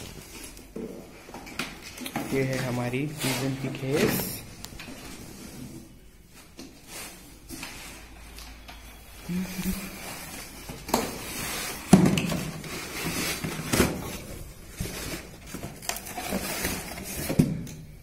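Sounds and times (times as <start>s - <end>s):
packaging rustling and scraping: 0.0s - 18.0s.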